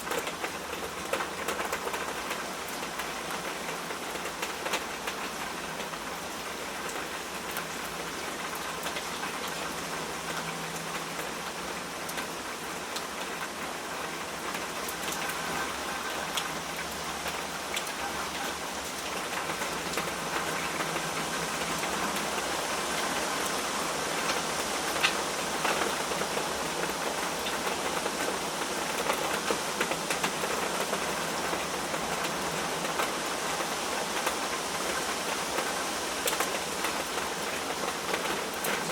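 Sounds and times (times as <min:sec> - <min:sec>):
raindrops ticking on a surface: 0:00.0 - 0:38.9
steady rainfall: 0:00.0 - 0:38.9.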